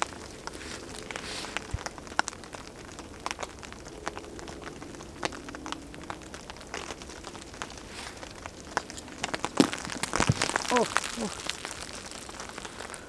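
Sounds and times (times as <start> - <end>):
fire crackling and popping: 0.0 - 13.0
rain: 0.0 - 13.0.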